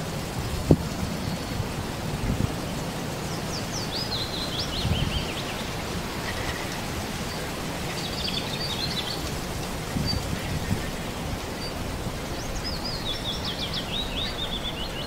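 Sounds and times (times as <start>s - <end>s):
wind hiss: 0.0s - 15.0s
small birds chirping: 2.5s - 15.0s.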